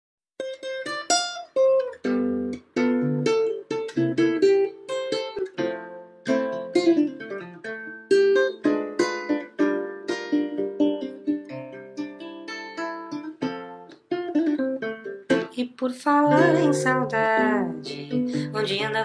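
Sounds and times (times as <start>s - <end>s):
plucked guitar notes and chords: 0.4s - 15.6s, 16.2s - 19.0s.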